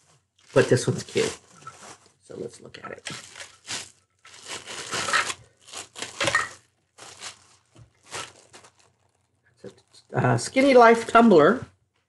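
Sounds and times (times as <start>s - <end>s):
plastic bag crinkling: 0.2s - 10.2s.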